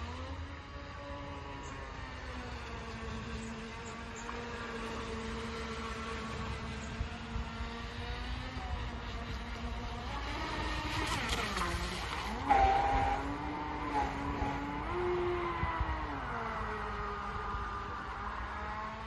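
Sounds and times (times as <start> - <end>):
boat running across water: 0.0 - 19.0
electric motor whining: 2.5 - 19.0.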